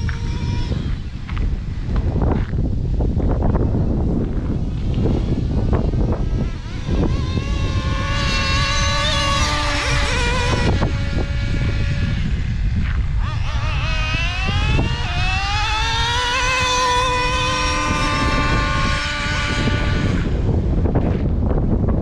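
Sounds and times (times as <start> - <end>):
rc truck engine whine: 0.0 - 22.0.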